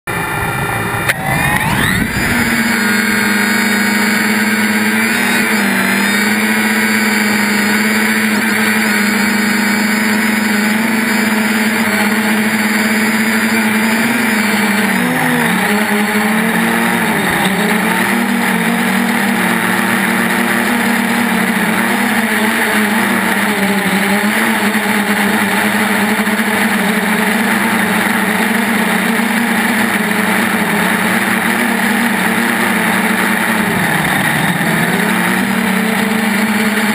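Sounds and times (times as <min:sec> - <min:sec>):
quadcopter buzzing hum: 0:00.1 - 0:36.9.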